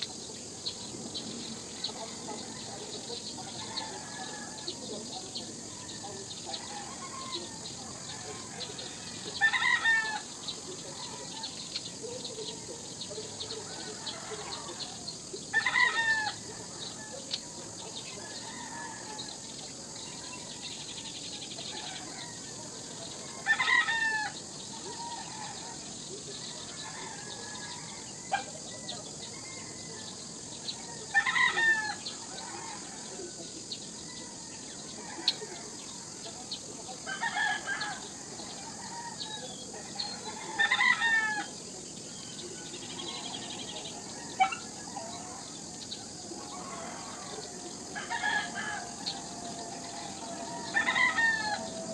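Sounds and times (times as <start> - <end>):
steady high-pitched hiss: 0.0 - 51.9
rooster crowing: 1.8 - 4.8, 5.8 - 10.4, 13.6 - 17.3, 18.0 - 20.8, 21.7 - 25.8, 26.4 - 35.9, 36.9 - 41.6, 42.6 - 51.9.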